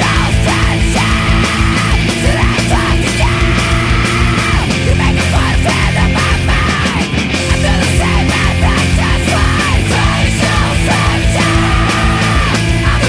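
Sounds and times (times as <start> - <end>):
bass guitar: 0.0 - 13.0
distorted guitars: 0.0 - 13.0
drums playing: 0.0 - 13.0.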